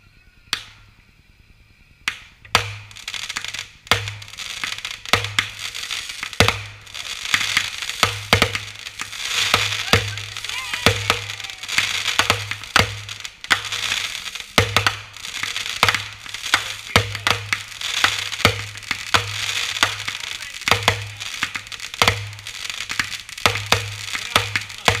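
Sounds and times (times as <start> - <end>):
fireworks hissing and crackling: 0.5 - 25.0
fireworks bangs: 2.0 - 25.0.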